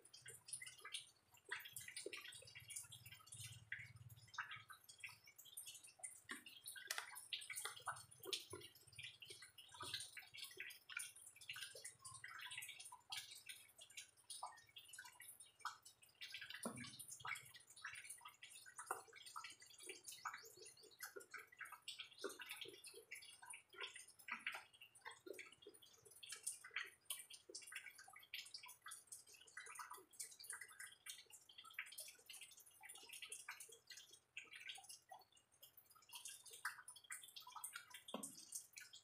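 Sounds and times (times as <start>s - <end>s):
wet chewing and mouth clicks: 0.1s - 39.0s.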